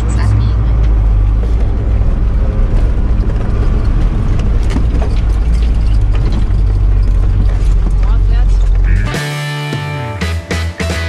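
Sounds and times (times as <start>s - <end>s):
diesel van engine running: 0.0s - 11.0s
knocks and rattles: 0.8s - 10.0s.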